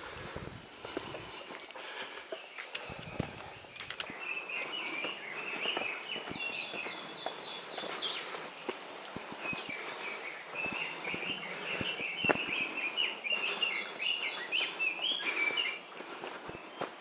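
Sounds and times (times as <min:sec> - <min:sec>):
footsteps on forest trail: 0:00.0 - 0:17.0
bird chirping song: 0:02.3 - 0:17.0.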